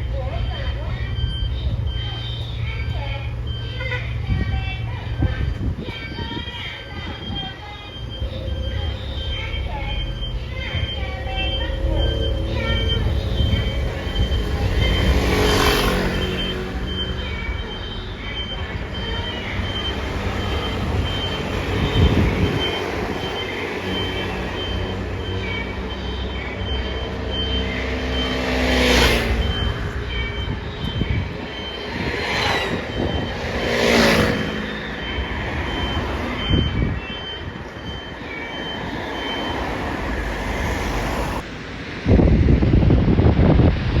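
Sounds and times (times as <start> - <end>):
backup alarm beeping: 0.0 - 41.4
diesel engine running: 0.0 - 41.5.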